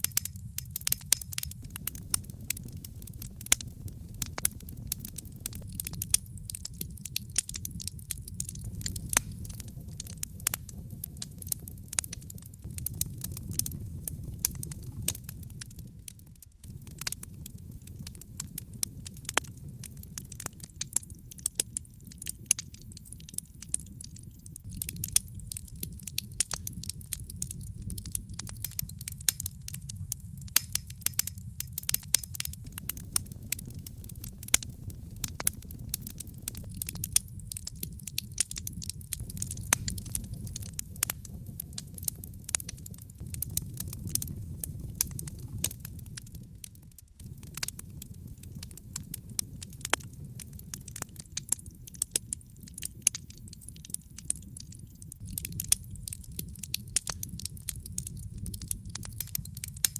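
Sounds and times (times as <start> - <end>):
burning wood crackles and pops: 0.0 - 59.9
low rumble of flames: 0.0 - 59.9.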